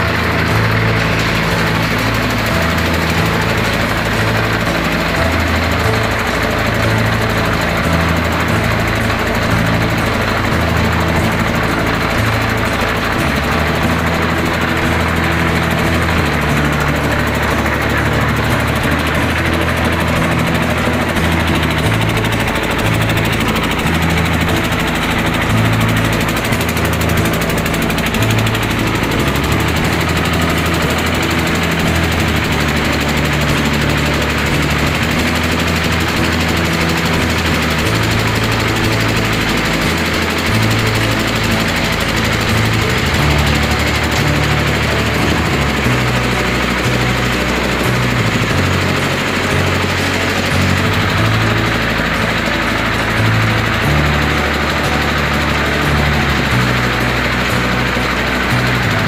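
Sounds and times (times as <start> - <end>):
concrete mixer engine running: 0.0 - 59.0.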